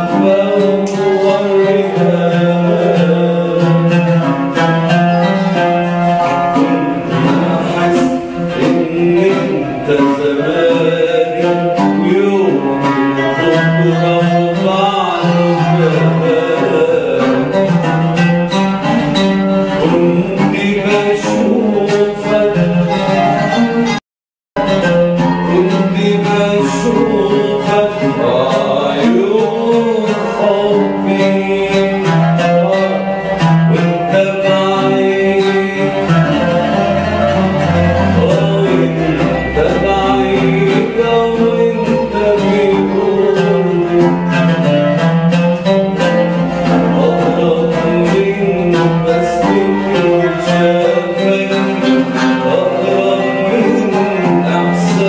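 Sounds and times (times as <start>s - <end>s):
plucked string ensemble music: 0.0s - 24.0s, 24.6s - 55.0s.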